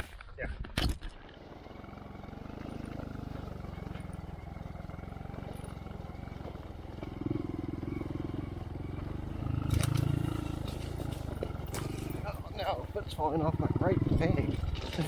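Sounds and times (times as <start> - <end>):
motorcycle engine idling: 1.3 - 15.0.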